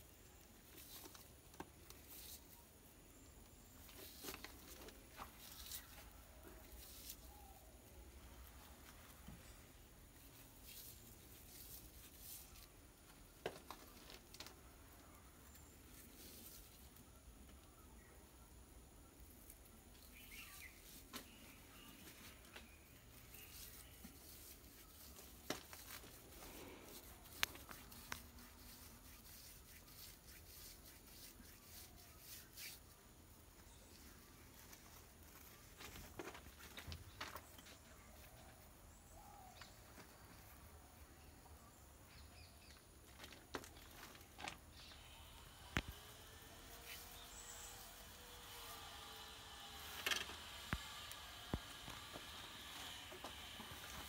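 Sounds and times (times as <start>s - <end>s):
dry rustling of fibres: 0.0s - 54.0s.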